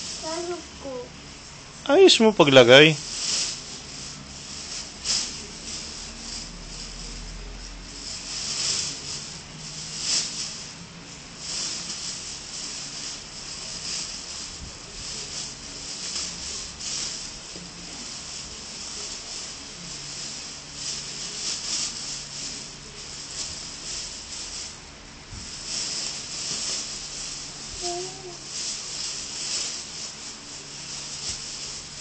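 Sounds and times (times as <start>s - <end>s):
plastic bag rustling and crinkling: 0.0s - 1.1s, 1.9s - 32.0s.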